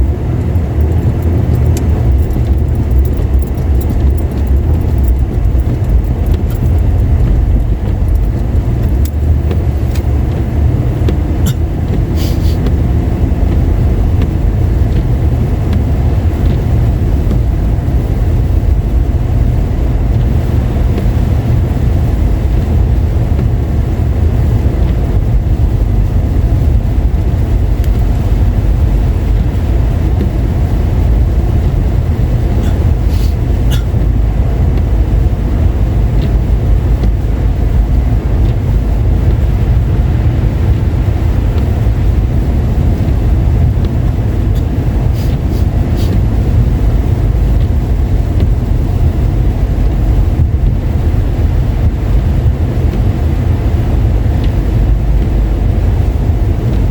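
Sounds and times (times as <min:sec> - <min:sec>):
car driving on wet road: 0:00.0 - 0:56.9.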